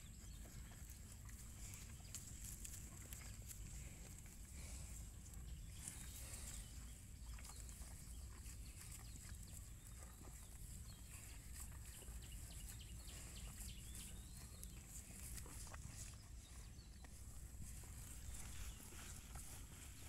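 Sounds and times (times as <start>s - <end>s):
cattle cropping grass: 0.3s - 20.0s.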